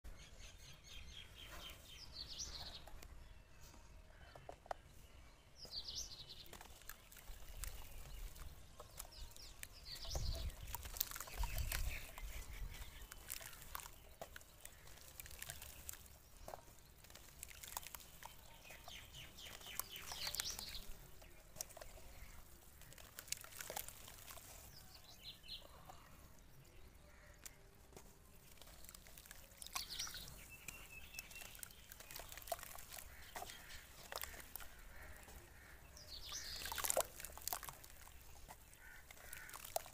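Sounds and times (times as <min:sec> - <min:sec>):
birds chirping: 0:00.1 - 0:39.9
dirt crackling and crumbling: 0:01.0 - 0:39.9.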